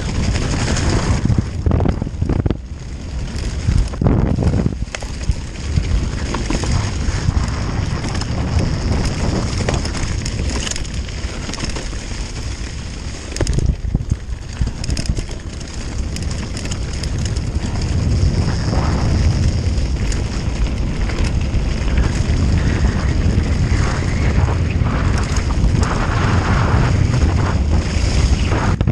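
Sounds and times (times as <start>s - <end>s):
bike jolts: 0.0s - 28.9s
bike tyres rumbling on trail: 0.0s - 28.9s
wind buffeting microphone: 0.0s - 28.9s.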